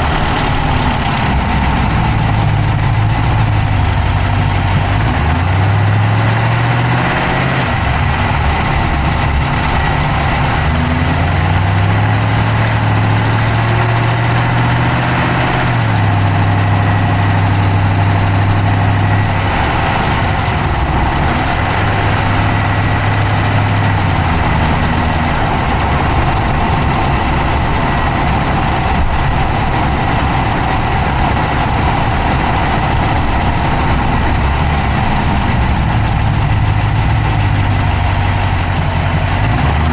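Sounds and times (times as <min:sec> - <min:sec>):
car engine idling: 0:00.0 - 0:39.9
fast engine clicking: 0:00.0 - 0:39.9.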